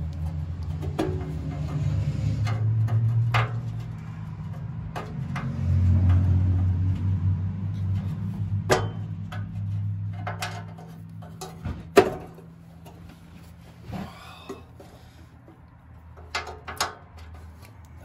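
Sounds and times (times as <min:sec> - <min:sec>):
metal clicks and knocks: 0:00.0 - 0:07.1, 0:07.9 - 0:13.2, 0:14.5 - 0:18.0.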